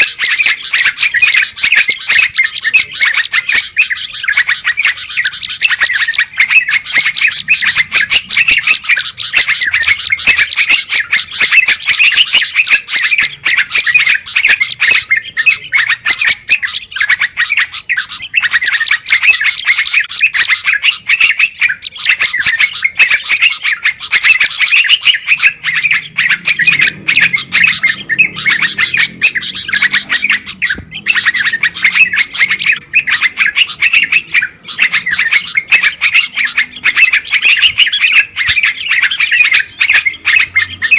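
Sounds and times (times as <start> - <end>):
songbirds chirping and chattering: 0.0 - 40.9.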